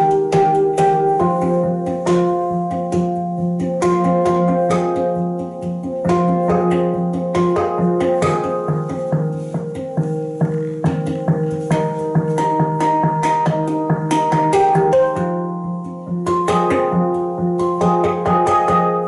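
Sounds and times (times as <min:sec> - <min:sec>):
handpan played by hand: 0:00.0 - 0:19.0.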